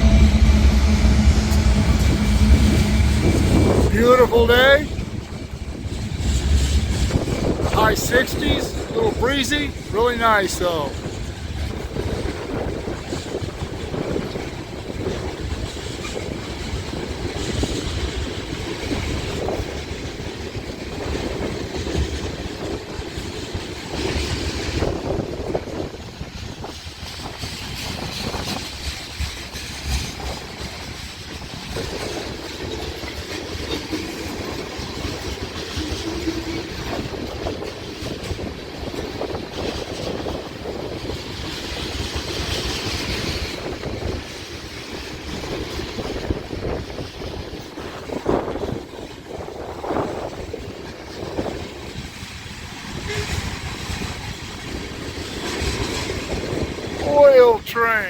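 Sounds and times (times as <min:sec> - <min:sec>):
freight train cars rumbling: 0:00.0 - 0:58.0.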